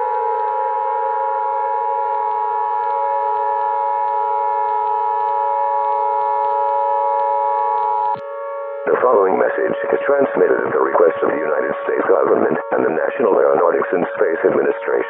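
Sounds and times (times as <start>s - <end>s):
synthesized alarm tones: 0.0s - 15.0s.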